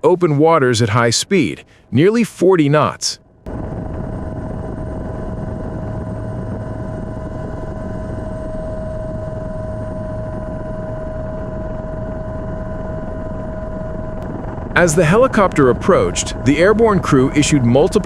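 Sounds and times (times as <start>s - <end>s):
helicopter engine and rotor: 3.5s - 18.0s
high-pitched whine: 3.5s - 18.0s.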